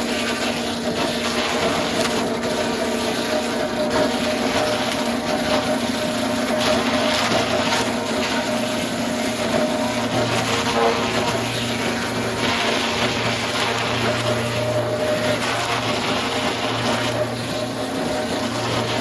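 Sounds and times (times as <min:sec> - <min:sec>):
sawmill machinery running: 0:00.0 - 0:19.0.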